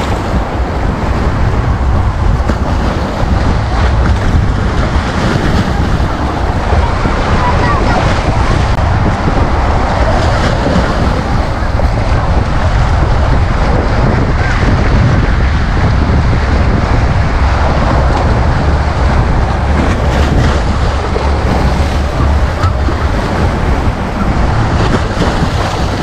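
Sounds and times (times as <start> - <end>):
sea waves washing over steps: 0.0 - 26.0
wind rumbling on microphone: 0.0 - 26.0.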